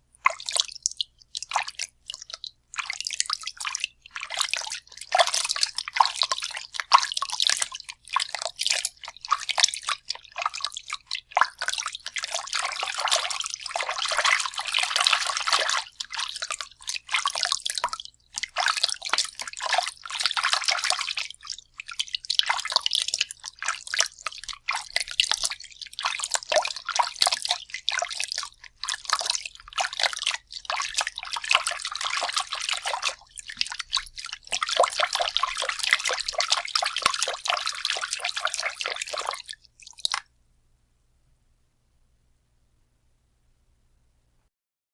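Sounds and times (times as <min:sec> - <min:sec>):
water splashing and dripping: 0:00.2 - 0:40.3.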